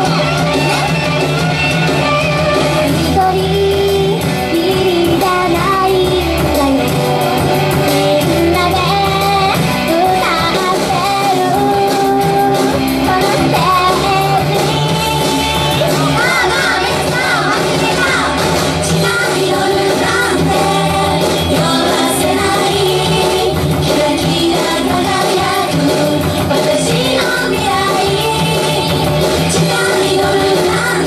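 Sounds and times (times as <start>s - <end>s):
amplified backing music: 0.0s - 31.0s
women singing into microphones: 2.7s - 31.0s.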